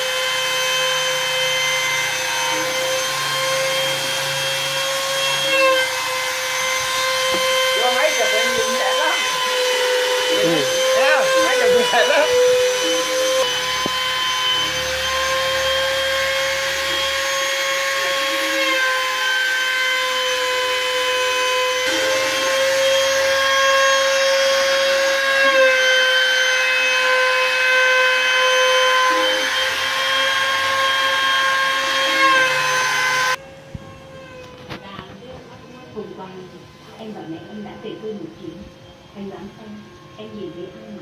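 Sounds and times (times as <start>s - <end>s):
router spindle whine: 0.0s - 41.0s
wood cutting noise: 0.0s - 41.0s.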